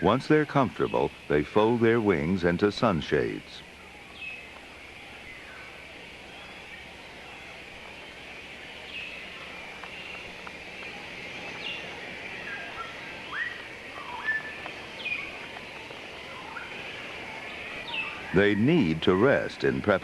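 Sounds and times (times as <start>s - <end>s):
birds whistling: 0.0s - 20.0s
high hiss of ambience: 0.0s - 20.0s.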